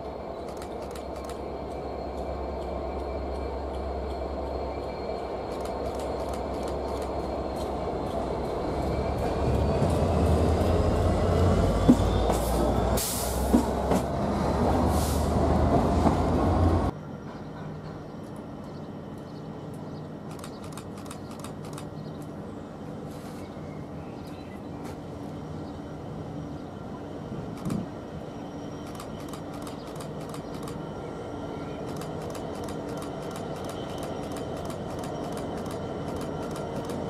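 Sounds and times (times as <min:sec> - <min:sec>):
station background noise: 0:00.0 - 0:37.0.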